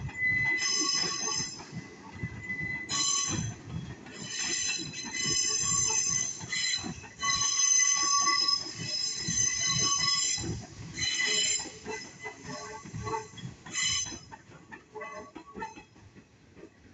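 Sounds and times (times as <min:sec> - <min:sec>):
train wheels squealing: 0:00.0 - 0:16.1
rumble of train wheels: 0:00.0 - 0:16.9.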